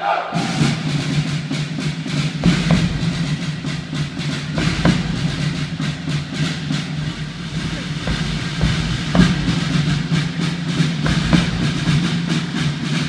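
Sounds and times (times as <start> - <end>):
drums beating: 0.2 - 13.0.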